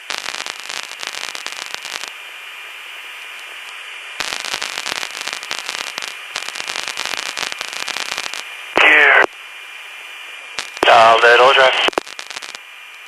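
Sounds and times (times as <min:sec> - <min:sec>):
radio static crackling: 0:00.0 - 0:13.0
steady radio hiss: 0:00.0 - 0:13.0.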